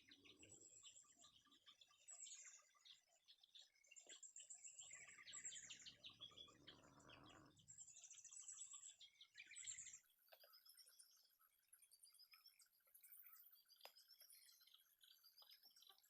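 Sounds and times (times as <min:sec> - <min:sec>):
birds chirping and trilling: 0:00.0 - 0:16.0.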